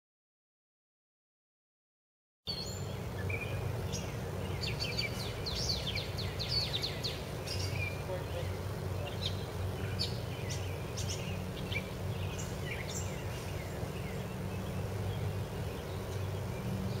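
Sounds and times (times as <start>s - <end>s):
birds chirping: 2.5s - 17.0s.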